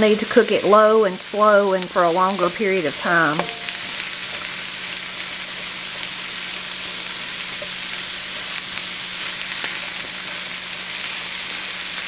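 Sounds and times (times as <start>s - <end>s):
cabbage sizzling in a skillet: 0.0s - 12.0s.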